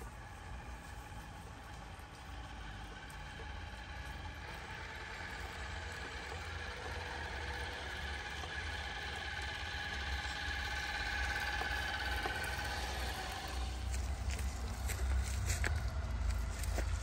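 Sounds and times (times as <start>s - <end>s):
electric motor and gearbox whine: 0.0s - 17.0s.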